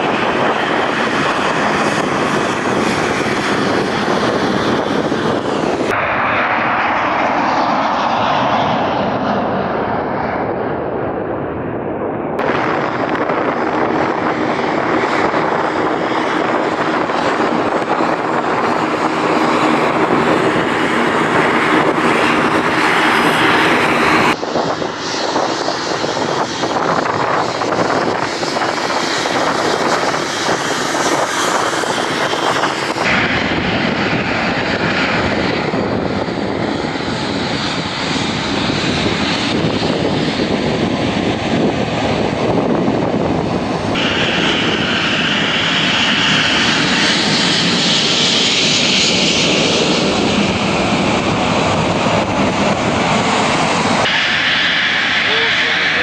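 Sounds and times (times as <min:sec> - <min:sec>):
jet engines running: 0:00.0 - 0:56.0
turboprop engines running: 0:00.0 - 0:56.0.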